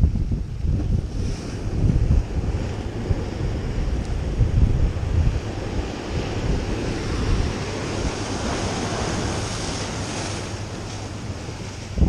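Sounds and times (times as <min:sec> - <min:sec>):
surf washing over rocks: 0:00.0 - 0:12.0
wind rumbling on microphone: 0:00.0 - 0:12.0.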